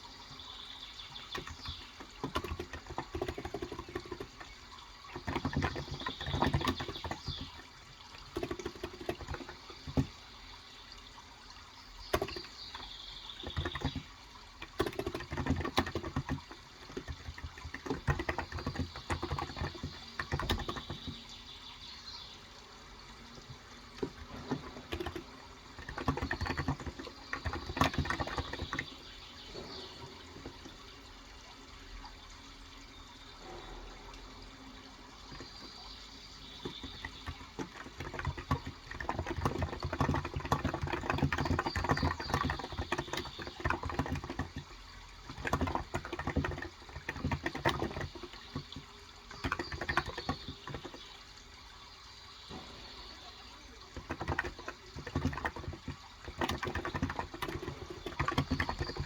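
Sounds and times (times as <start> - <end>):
running water: 0.0 - 59.0
typing on a keyboard: 1.2 - 10.2, 12.0 - 21.4, 23.2 - 30.9, 35.2 - 51.4, 53.7 - 59.0.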